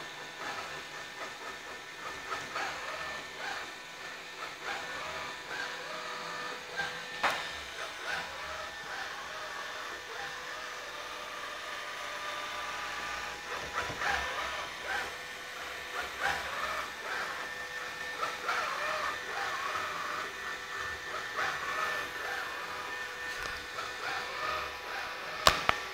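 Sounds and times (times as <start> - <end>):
robot vacuum motor hum: 0.0 - 25.9.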